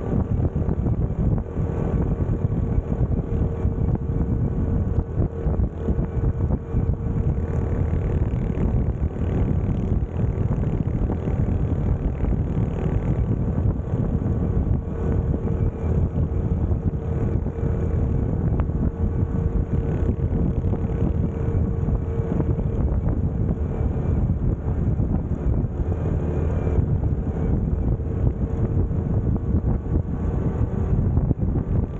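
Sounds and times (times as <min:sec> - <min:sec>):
motorcycle engine cruising: 0:00.0 - 0:31.9
wind rushing over microphone: 0:00.0 - 0:31.9.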